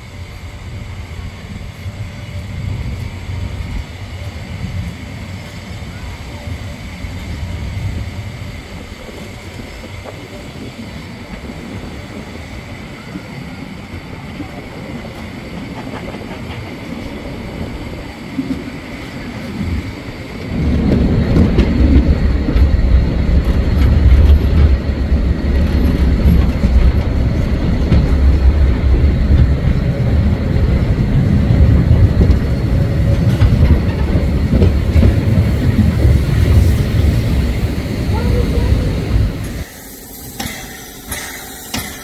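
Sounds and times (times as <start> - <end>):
steam locomotive deep rumble: 0.0 - 42.0
train running on rails: 0.0 - 42.0.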